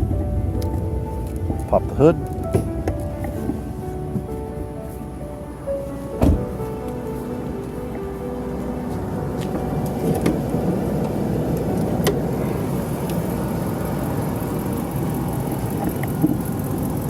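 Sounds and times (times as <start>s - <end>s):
pickup truck engine idling: 0.0s - 17.0s.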